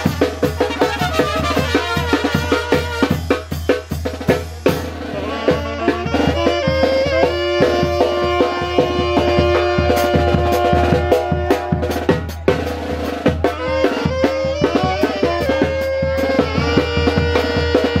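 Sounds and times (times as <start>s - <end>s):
brass horns holding long notes: 0.0s - 3.4s, 4.8s - 12.6s, 13.2s - 18.0s
drum beat: 0.0s - 18.0s.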